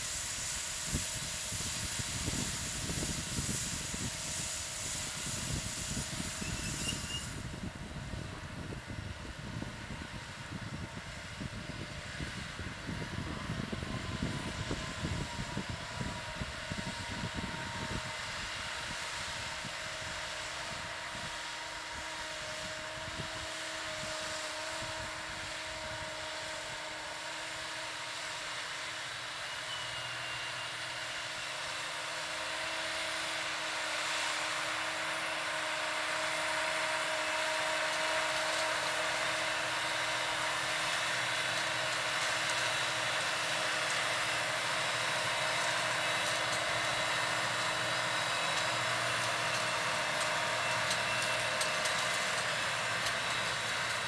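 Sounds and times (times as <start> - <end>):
steady whine: 0.0 - 54.0
tractor diesel engine under load: 0.0 - 54.0.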